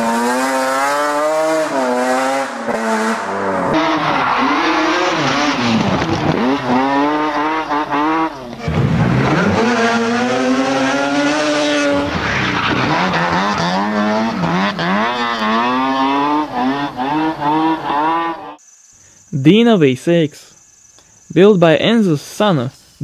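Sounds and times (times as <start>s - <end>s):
rotary engine revving hard: 0.0s - 18.6s.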